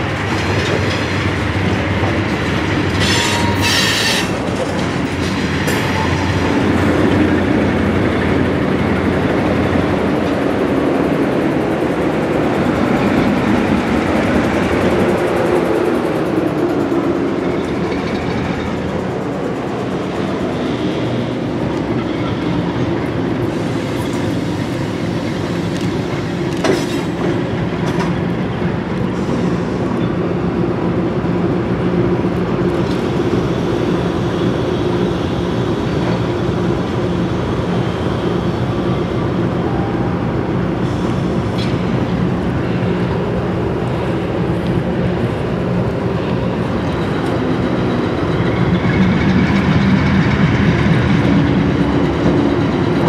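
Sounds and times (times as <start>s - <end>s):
diesel locomotives running: 0.0s - 53.0s.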